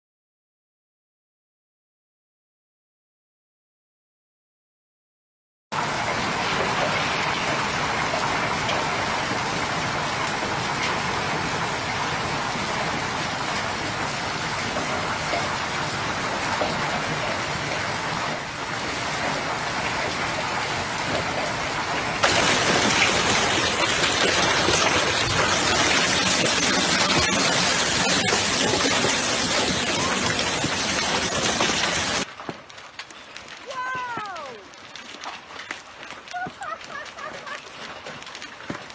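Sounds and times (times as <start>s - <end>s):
water cascading off gutter: 5.7s - 38.9s
hail and rain pelting pavement: 5.8s - 38.9s.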